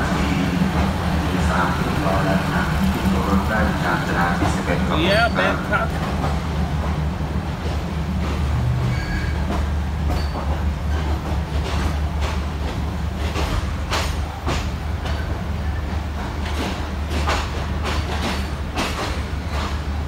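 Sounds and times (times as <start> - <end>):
train rumble: 0.0 - 20.0
wheels clacking over rail joints: 0.0 - 20.0.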